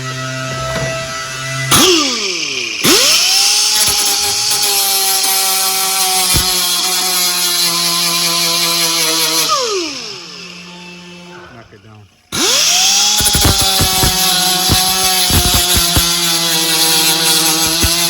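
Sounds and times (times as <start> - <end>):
electric grinder grinding metal: 0.0 - 11.4, 12.3 - 18.0.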